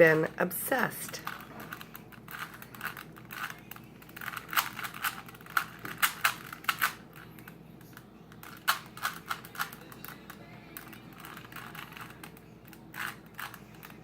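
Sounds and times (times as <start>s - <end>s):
puzzle cube plastic clicks: 1.2s - 14.0s.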